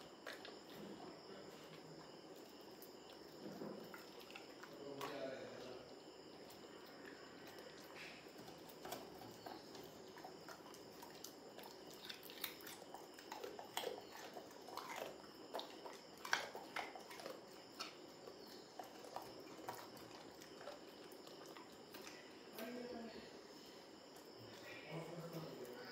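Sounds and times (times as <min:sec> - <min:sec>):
dog crunching carrot: 0:00.0 - 0:22.9.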